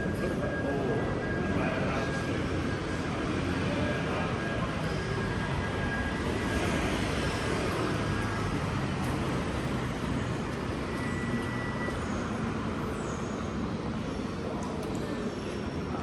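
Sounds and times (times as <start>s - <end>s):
vehicle traffic rumble: 0.0s - 16.0s.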